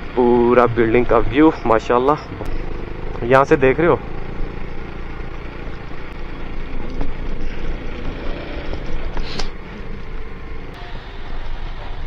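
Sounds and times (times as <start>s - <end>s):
motorcycle engine running: 0.0s - 11.9s
wind and road noise: 0.0s - 12.0s.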